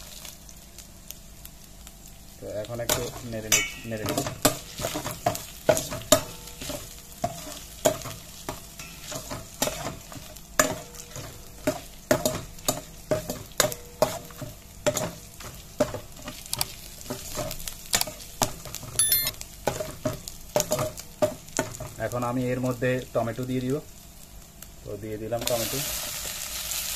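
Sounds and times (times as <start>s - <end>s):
hot oil sizzling: 0.0s - 18.8s, 19.4s - 26.9s.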